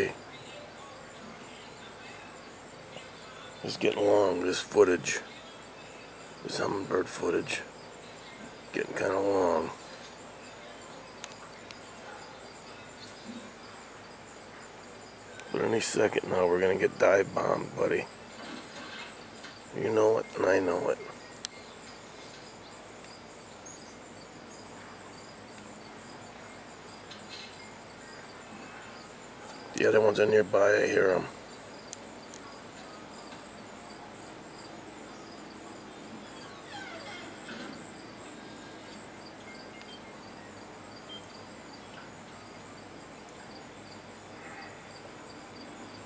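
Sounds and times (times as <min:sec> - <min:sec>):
faint high-pitched chirps: 0:00.0 - 0:46.0
steady low hiss: 0:00.0 - 0:46.0.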